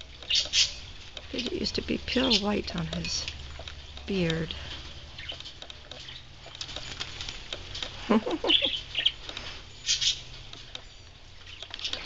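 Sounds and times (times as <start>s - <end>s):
bird chirps and calls: 0.2s - 12.0s.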